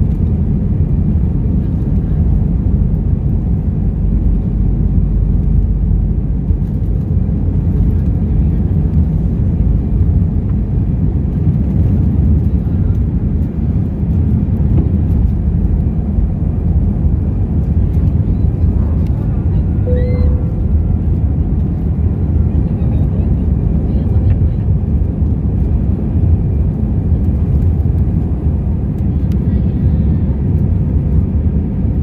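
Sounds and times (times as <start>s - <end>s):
jet engines rumbling in cabin: 0.0s - 32.0s.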